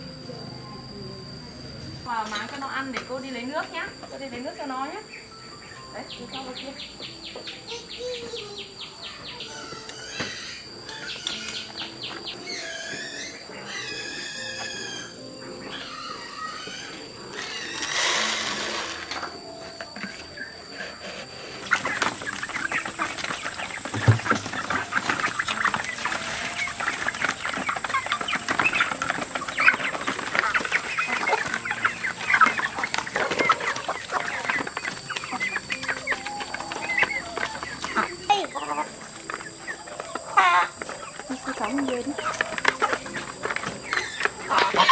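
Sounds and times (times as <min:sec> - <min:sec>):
chickens clucking: 0:02.0 - 0:44.9.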